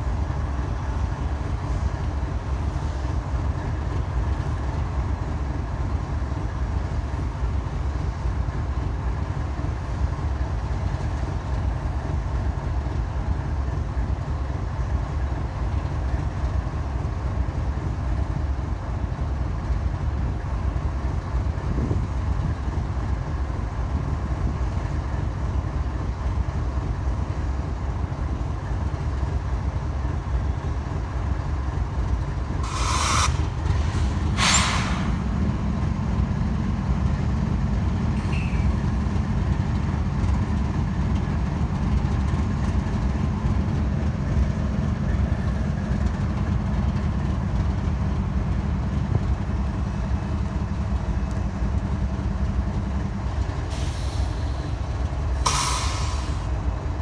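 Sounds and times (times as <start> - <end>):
distant diesel locomotives rumbling: 0.0 - 57.0.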